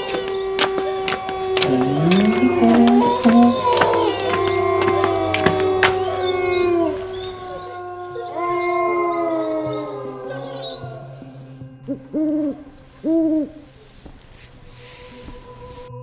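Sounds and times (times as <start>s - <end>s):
dog howling: 0.0s - 13.7s
owl hooting: 0.0s - 15.9s.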